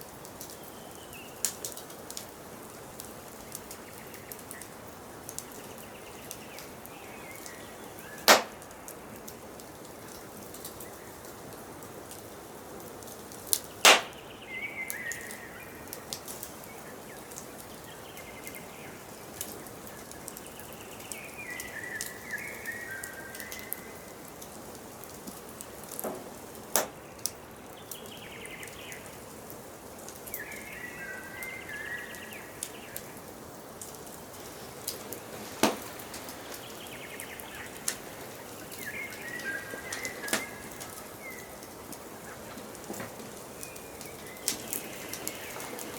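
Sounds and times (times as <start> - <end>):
wood fire crackling and popping: 0.0 - 31.5, 32.1 - 45.9.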